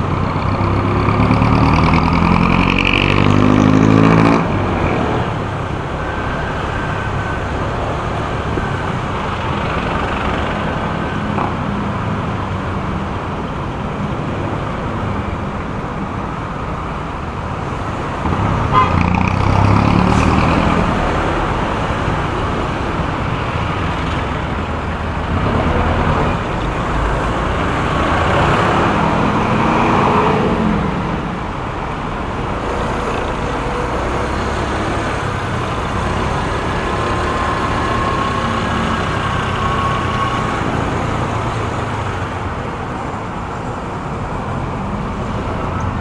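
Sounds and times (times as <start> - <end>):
wind and road noise: 0.0 - 46.0.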